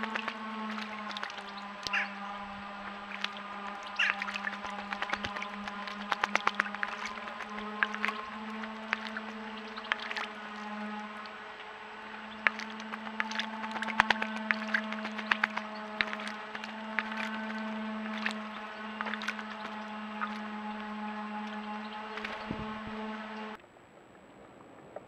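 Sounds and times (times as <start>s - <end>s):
bird splashing in water: 0.0s - 23.6s
steady low hum: 0.0s - 23.6s.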